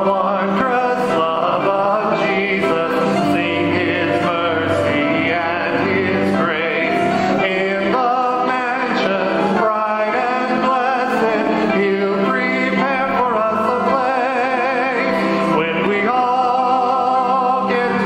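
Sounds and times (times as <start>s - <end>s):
congregation singing: 0.0s - 18.0s.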